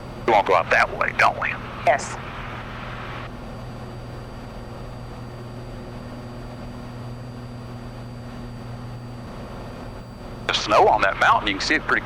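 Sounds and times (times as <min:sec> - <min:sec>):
airplane engine drone in cabin: 0:00.0 - 0:12.0
thin high whine: 0:00.0 - 0:12.0.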